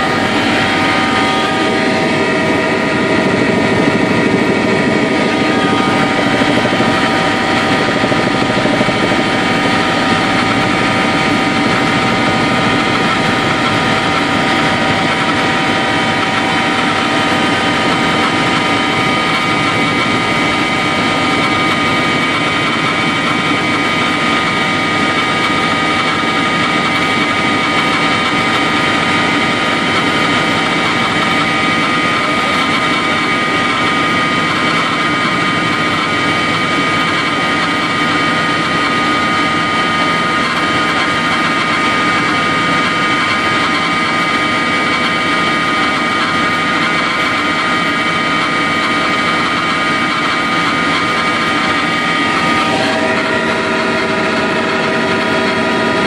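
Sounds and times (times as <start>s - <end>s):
helicopter engine whine: 0.0s - 56.0s.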